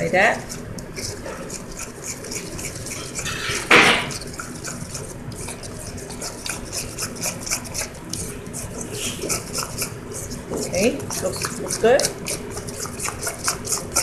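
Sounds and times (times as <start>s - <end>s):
batter squishing in a metal bowl: 0.0s - 14.0s.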